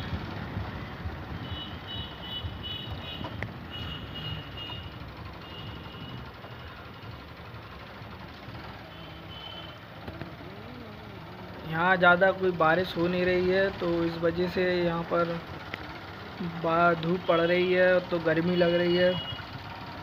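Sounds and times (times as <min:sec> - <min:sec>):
motorcycle engine and road noise: 0:00.0 - 0:20.0.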